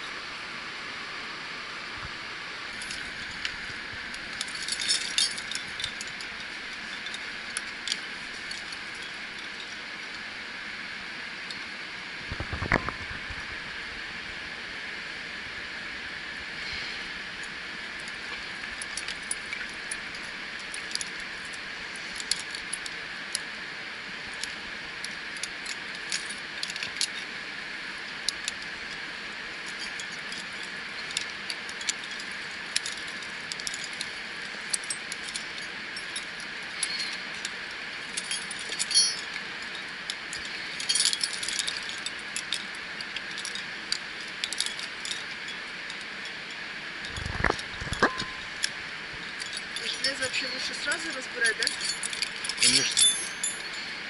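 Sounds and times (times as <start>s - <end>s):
metal climbing gear clinking: 2.7s - 10.9s, 16.6s - 54.0s.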